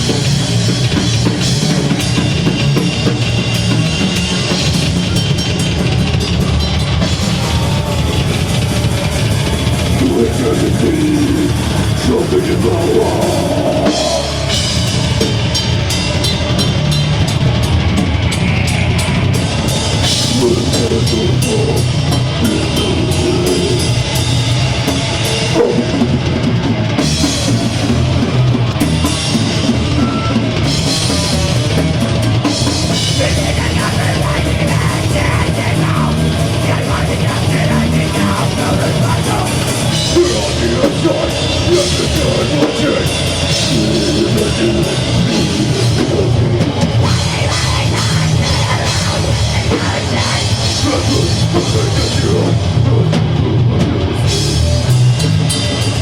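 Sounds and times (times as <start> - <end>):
distorted guitar and bass: 0.0 - 56.0
fast dense drums: 0.0 - 56.0.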